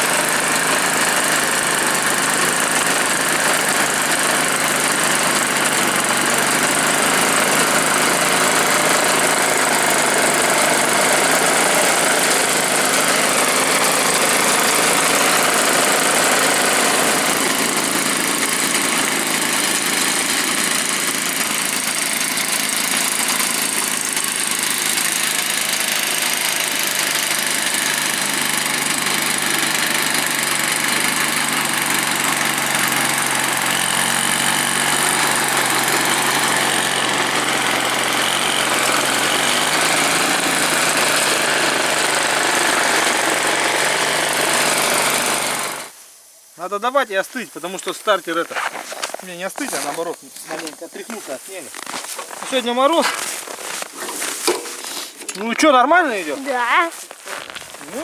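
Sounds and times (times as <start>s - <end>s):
two-stroke engine running: 0.0s - 46.0s, 49.1s - 58.0s.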